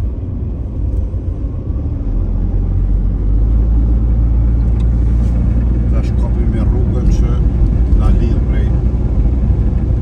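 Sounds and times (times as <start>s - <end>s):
car driving rumble: 0.0s - 10.0s.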